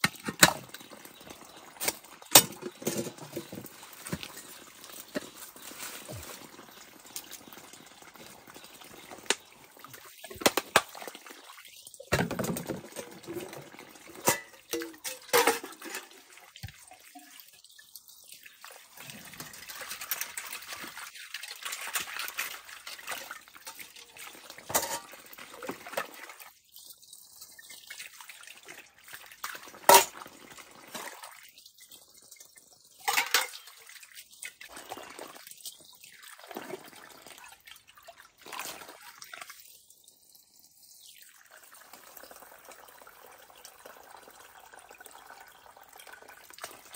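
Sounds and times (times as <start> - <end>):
stream trickling and splashing: 0.0 - 46.9.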